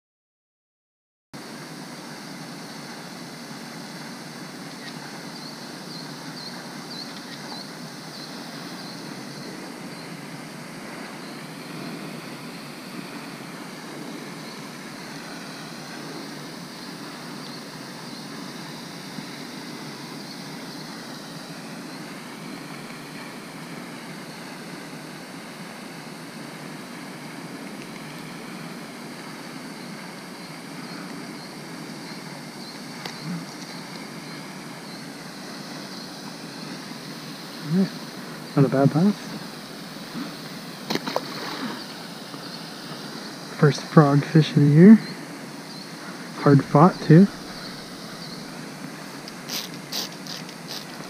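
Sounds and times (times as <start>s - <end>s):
outdoor background hiss: 1.4s - 51.0s.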